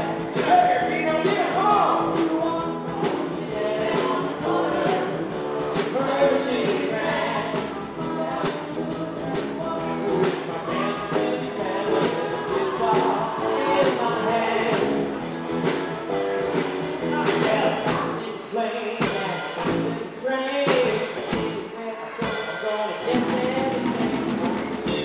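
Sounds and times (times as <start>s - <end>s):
drum beat: 0.0s - 18.2s, 22.3s - 25.0s
group singing: 0.0s - 18.4s, 20.8s - 25.0s.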